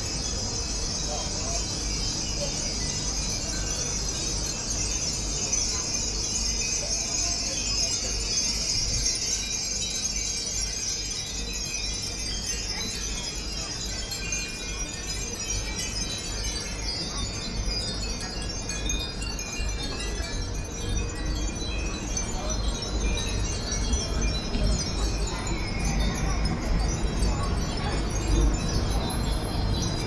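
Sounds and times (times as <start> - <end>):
wind chimes tinkling: 0.0 - 30.0.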